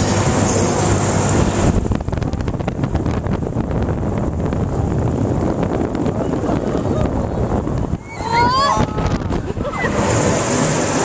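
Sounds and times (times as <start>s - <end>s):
ride rumble: 0.0s - 11.0s
wind buffeting microphone: 0.0s - 11.0s.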